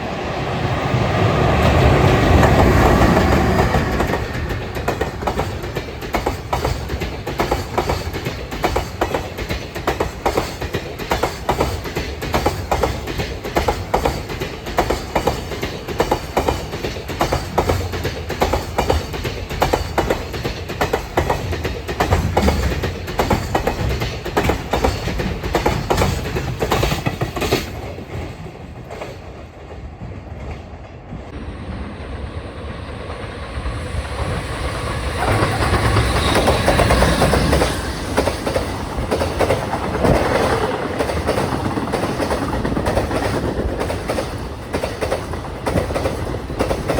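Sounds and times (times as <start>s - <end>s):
train rumble: 0.0s - 46.9s
train wheels clattering: 0.9s - 31.2s, 33.9s - 46.9s.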